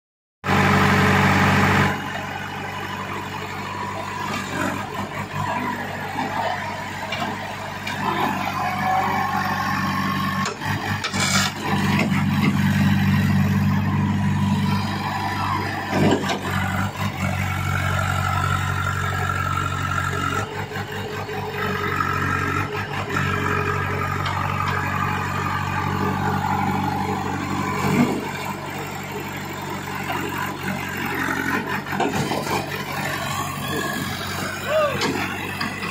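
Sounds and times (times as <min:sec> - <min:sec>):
diesel engine running under load: 0:00.4 - 0:35.9.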